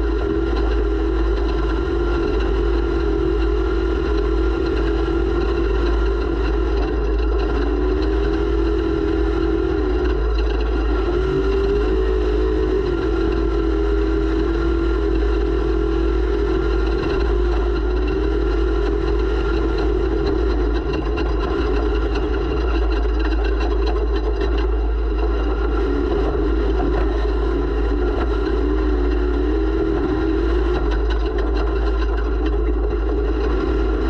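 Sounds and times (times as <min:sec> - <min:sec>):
race vehicle engine revving: 0:00.0 - 0:34.0.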